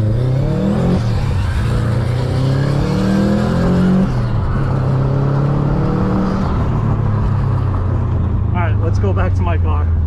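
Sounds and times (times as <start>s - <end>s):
car engine accelerating hard: 0.0s - 9.4s.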